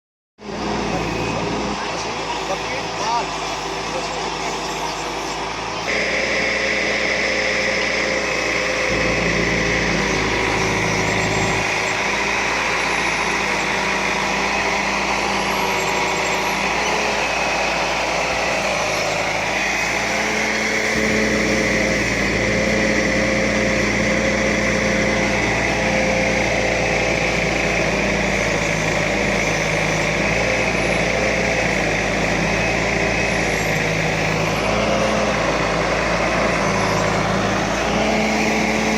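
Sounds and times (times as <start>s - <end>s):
diesel engine running under load: 0.4s - 38.9s.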